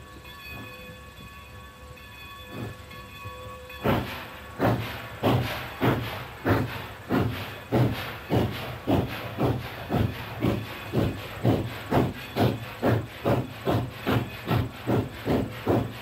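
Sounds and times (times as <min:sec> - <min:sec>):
steam locomotive exhaust chuffing: 0:00.0 - 0:16.0.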